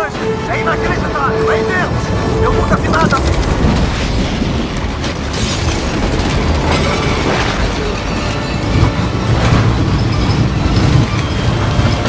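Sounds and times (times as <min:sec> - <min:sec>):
crashes: 0:00.0 - 0:11.1
film score music: 0:00.0 - 0:12.0
tornado wind rumble: 0:00.0 - 0:12.0.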